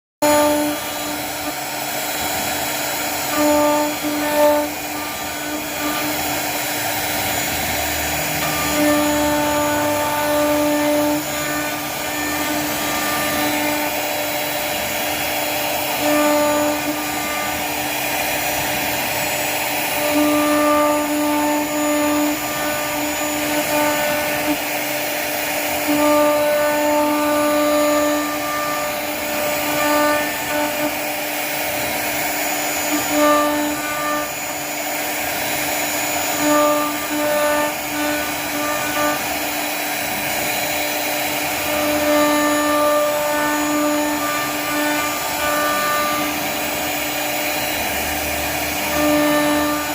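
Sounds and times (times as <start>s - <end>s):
cnc router running: 0.2s - 49.9s
spindle hum: 0.2s - 49.9s.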